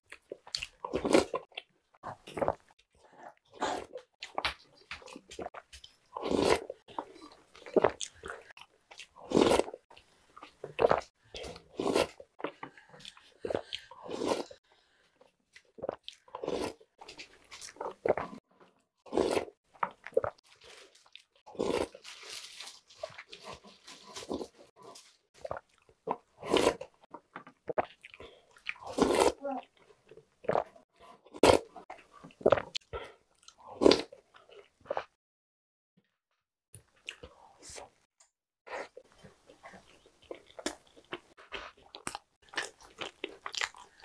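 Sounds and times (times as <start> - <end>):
chewing and crunching cereal: 0.0 - 35.2, 36.8 - 38.1, 38.7 - 44.0.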